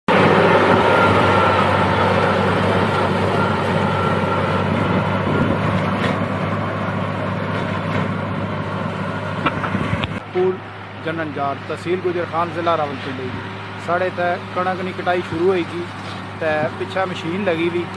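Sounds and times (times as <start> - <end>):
tractor diesel engine running: 0.1 - 17.9.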